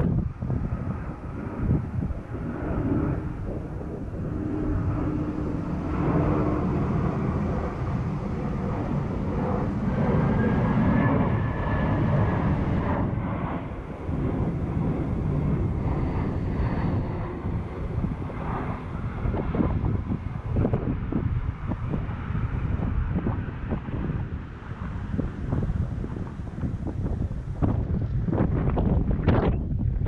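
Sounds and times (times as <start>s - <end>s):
faint rising and falling whine: 0.0s - 29.6s
faint engine drone: 0.0s - 30.0s
wind buffeting microphone: 0.0s - 30.0s.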